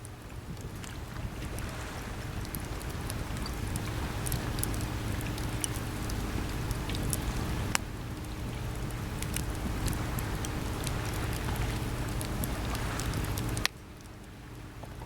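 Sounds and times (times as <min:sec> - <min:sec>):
sea waves washing: 0:00.0 - 0:14.7
campfire crackling and popping: 0:00.0 - 0:15.0.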